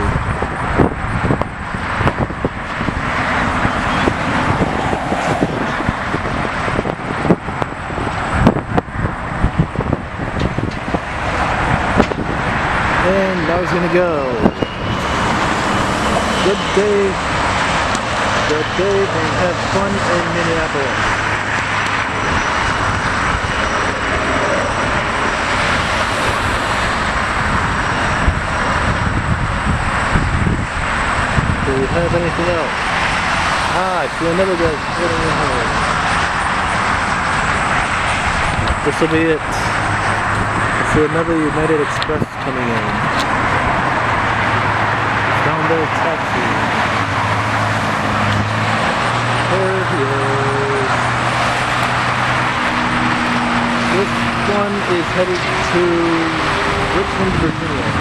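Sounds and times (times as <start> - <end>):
traffic and engine noise: 0.0 - 58.0.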